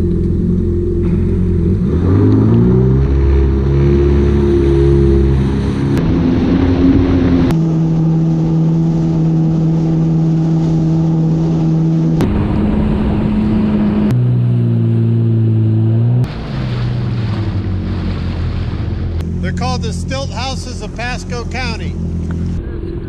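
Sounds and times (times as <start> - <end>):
watercraft engine running: 0.0 - 23.0.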